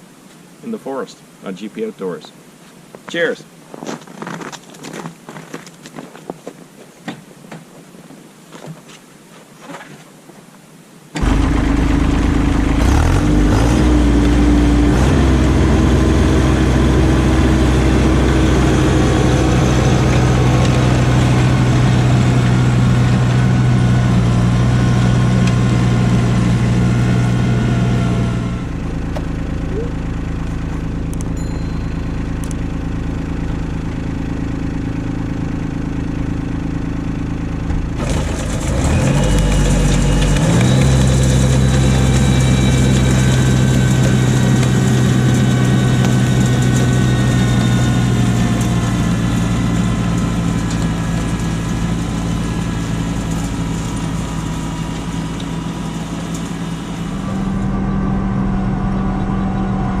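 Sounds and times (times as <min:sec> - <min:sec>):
tractor diesel engine revving: 0:11.2 - 0:31.4, 0:32.1 - 1:00.0.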